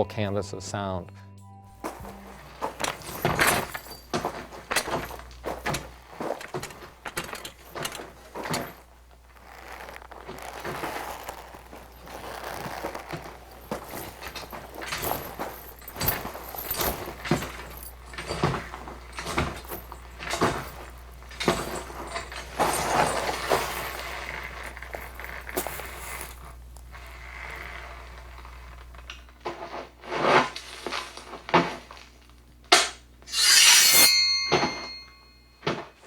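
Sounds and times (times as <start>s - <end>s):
foley knocks and clatters: 1.7s - 36.0s.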